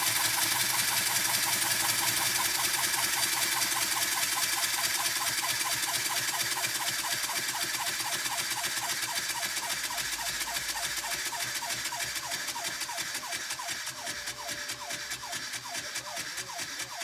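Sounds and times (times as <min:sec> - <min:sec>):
rapid exhaust chuffing: 0:00.0 - 0:17.0.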